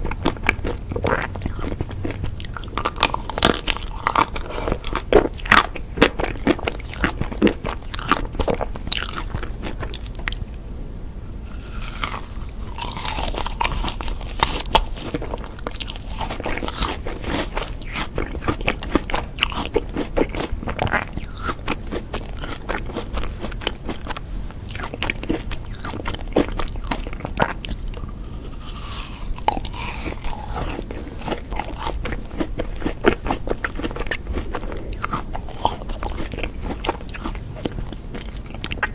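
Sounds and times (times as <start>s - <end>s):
ice cream crunching: 0.0s - 10.5s, 11.4s - 38.9s.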